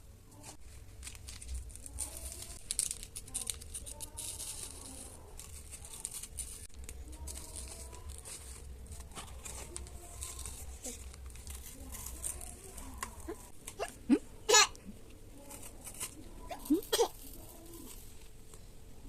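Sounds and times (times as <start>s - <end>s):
plastic wrapping crinkling: 0.4s - 14.0s, 15.4s - 18.6s.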